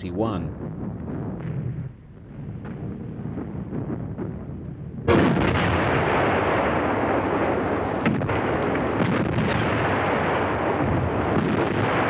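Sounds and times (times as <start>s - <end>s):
long rumble: 0.0s - 12.0s
artillery gun blast: 0.5s - 12.0s.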